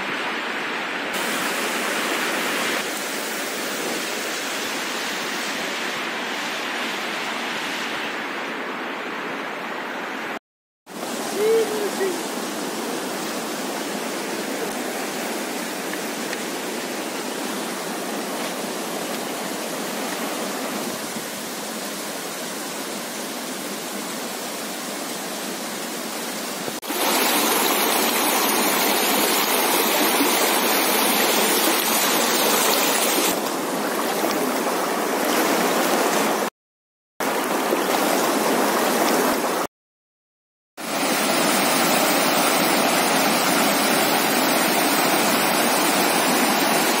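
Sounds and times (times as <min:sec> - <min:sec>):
river rushing over stones: 0:00.0 - 0:36.5, 0:37.2 - 0:39.7, 0:40.8 - 0:47.0.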